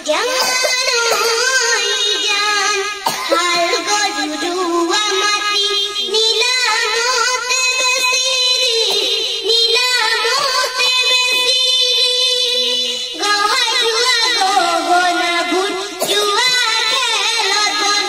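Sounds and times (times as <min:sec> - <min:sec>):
girl singing unaccompanied: 0:00.0 - 0:18.0.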